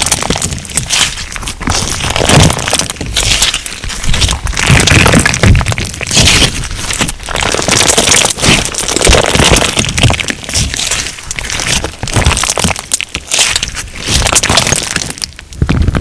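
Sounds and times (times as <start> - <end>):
slime crackling and crunching: 0.0 - 16.0.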